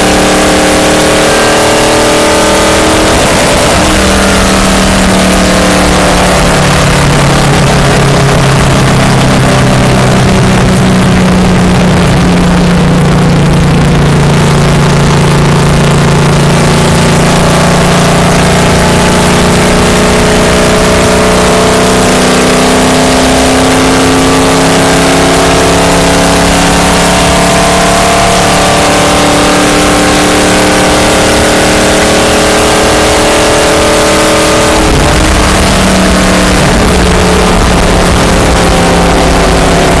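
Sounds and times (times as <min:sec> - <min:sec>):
race car engine at high revs: 0:00.0 - 0:40.0
wind and road rush: 0:00.0 - 0:40.0.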